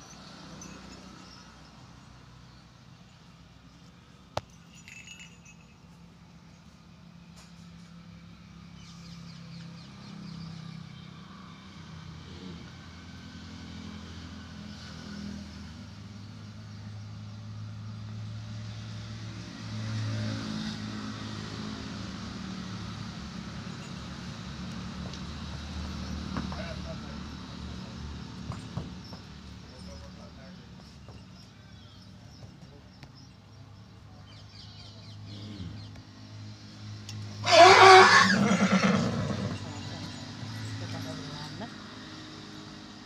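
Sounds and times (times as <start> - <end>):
engine hum: 0.0 - 43.0.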